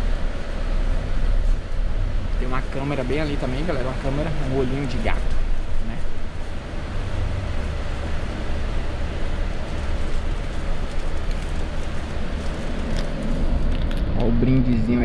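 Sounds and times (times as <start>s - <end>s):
bus engine rumble inside cabin: 0.0s - 15.0s.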